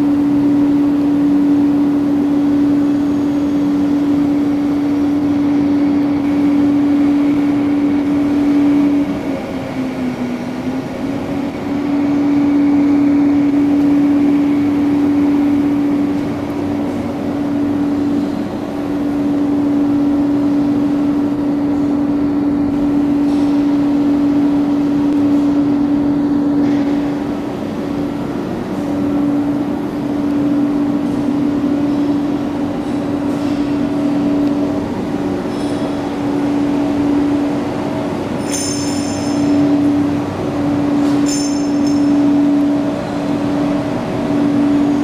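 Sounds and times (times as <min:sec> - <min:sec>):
machinery humming tone: 0:00.0 - 0:45.0.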